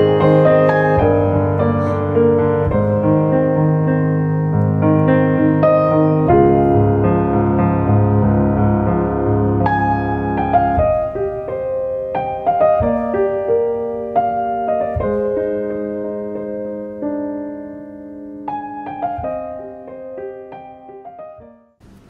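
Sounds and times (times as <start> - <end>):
soft piano music: 0.0 - 21.8.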